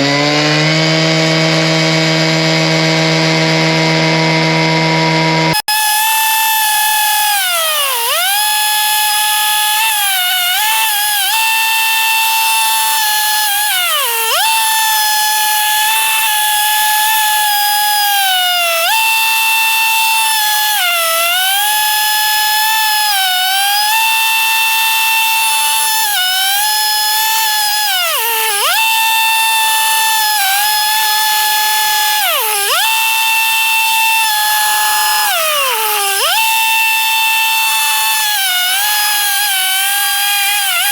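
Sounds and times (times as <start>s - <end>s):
cut-off saw cutting steel: 0.0s - 40.9s.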